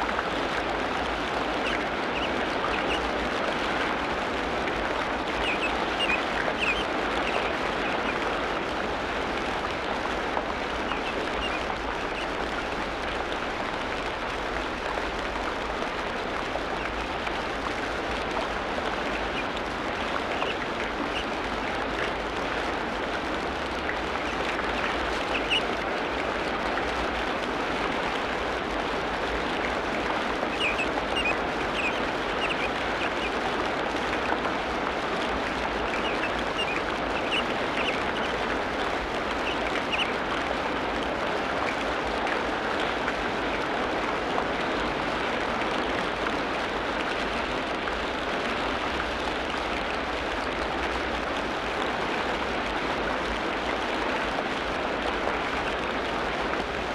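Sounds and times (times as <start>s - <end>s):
rain-like hiss: 0.0s - 56.9s.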